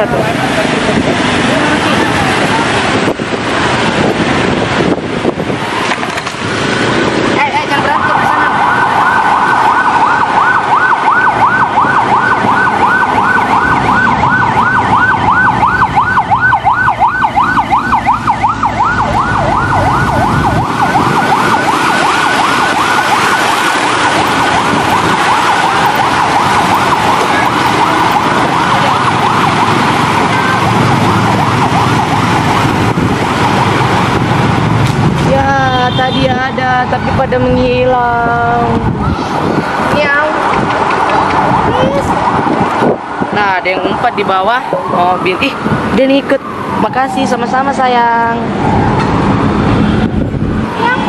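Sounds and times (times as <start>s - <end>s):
road traffic noise: 0.0s - 51.0s
emergency siren warbling: 6.5s - 51.0s.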